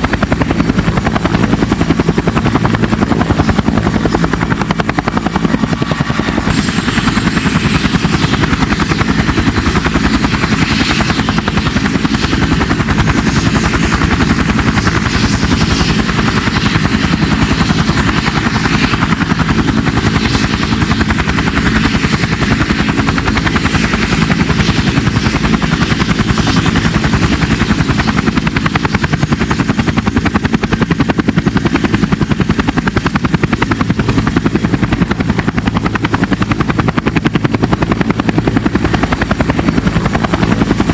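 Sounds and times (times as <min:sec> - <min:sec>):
helicopter engine whine: 0:00.0 - 0:40.9
helicopter rotors chopping: 0:00.0 - 0:40.9.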